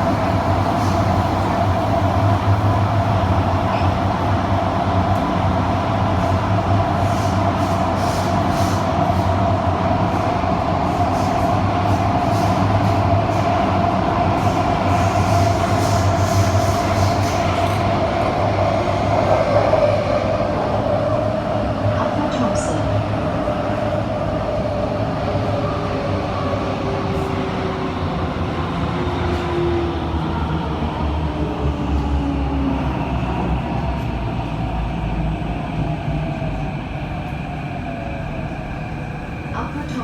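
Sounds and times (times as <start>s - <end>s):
metro train hum and rumble: 0.0s - 40.0s.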